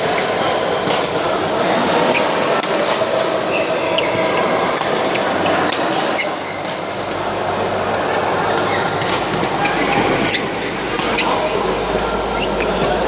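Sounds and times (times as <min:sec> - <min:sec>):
background chatter in hall: 0:00.0 - 0:13.0.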